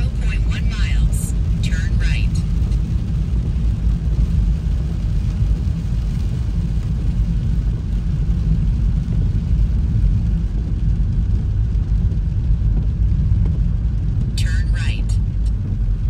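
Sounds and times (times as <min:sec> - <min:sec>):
car driving on wet road: 0:00.0 - 0:16.0.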